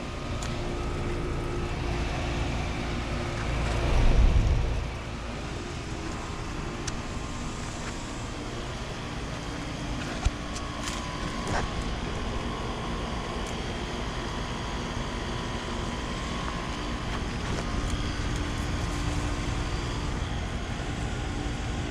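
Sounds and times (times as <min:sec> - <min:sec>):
air conditioner units humming: 0:00.0 - 0:21.9.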